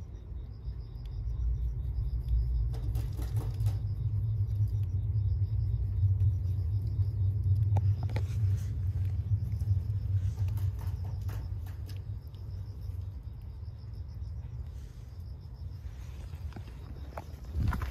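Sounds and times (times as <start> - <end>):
insects chirping: 0.0 - 17.9
steady low rumble: 0.0 - 17.9.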